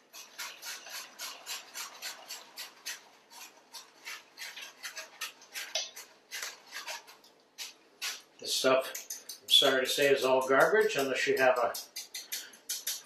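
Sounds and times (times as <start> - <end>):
whisk scraping metal strainer: 0.0 - 13.0.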